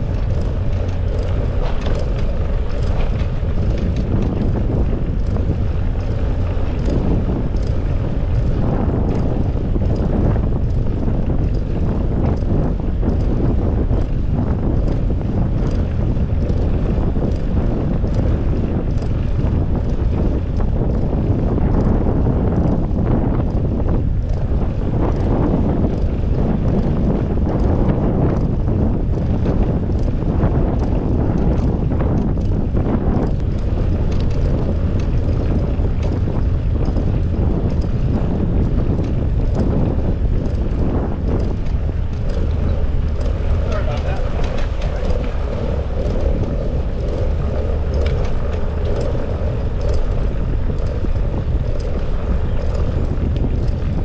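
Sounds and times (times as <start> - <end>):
faint ticks: 0.0 - 21.0, 22.6 - 54.0
wind buffeting microphone: 0.0 - 54.0.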